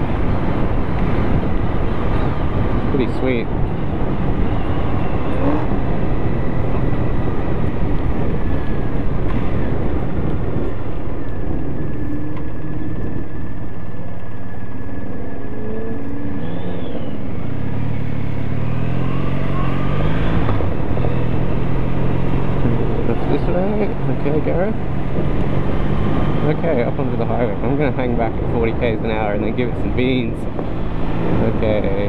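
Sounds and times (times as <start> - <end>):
motorcycle engine and exhaust: 0.0 - 32.0
wind on microphone: 0.0 - 32.0.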